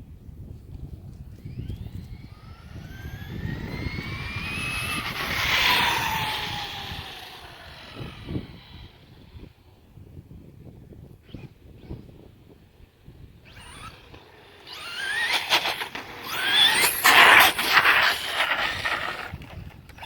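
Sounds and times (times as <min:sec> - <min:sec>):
rc truck motor whining: 0:00.9 - 0:10.0, 0:10.9 - 0:20.0.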